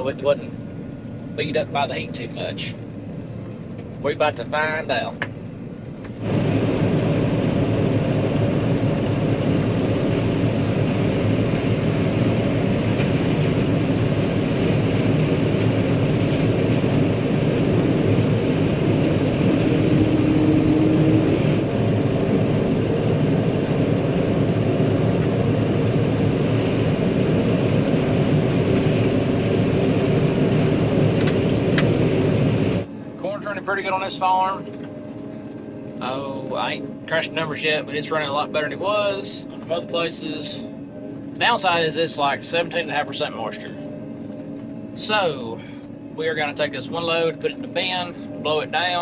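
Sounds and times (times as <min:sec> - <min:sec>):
combine harvester engine drone: 0:00.0 - 0:49.0
higher steady tone: 0:00.0 - 0:49.0.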